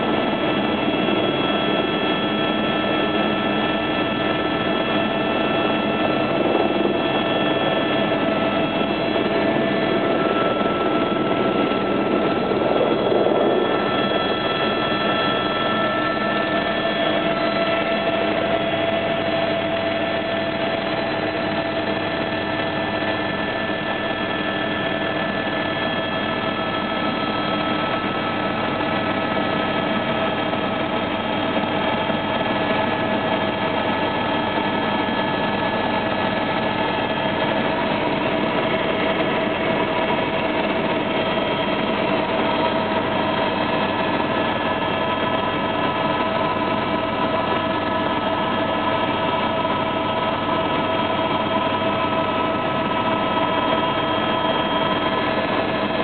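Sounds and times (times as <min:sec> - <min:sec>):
small aircraft engine drone: 0:00.0 - 0:56.0.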